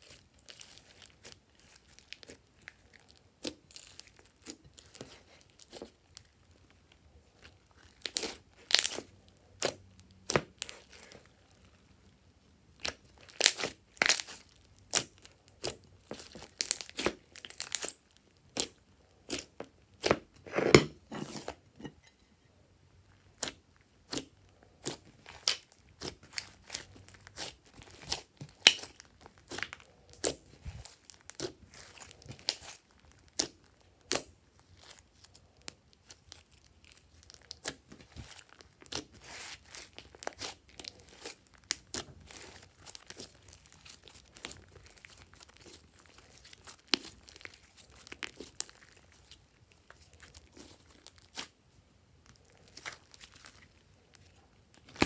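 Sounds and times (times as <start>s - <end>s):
slime popping and crackling: 0.0s - 6.5s, 7.4s - 11.6s, 12.7s - 20.8s, 23.4s - 51.6s, 52.2s - 55.0s.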